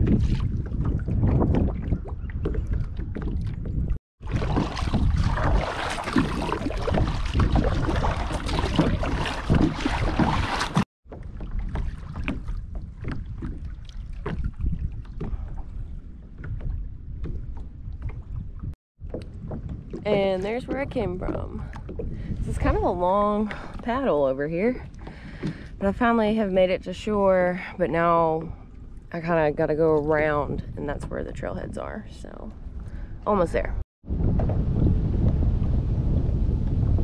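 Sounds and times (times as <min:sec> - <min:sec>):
water splashing against kayak: 0:00.0 - 0:31.8
wind buffeting microphone: 0:00.0 - 0:37.0.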